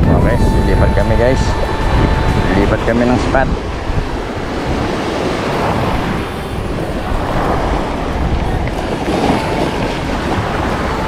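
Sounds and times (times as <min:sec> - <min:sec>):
surf rushing: 0:00.0 - 0:11.0
wind buffeting microphone: 0:00.0 - 0:11.0.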